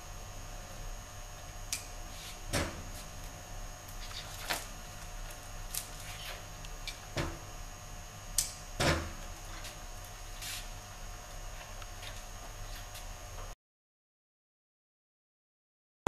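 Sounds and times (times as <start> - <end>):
steady electrical hum: 0.0 - 13.6.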